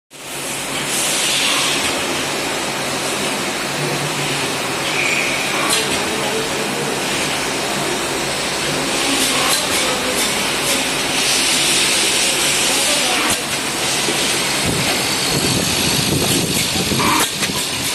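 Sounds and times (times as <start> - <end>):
sorting machine hiss and whir: 0.2 - 17.9.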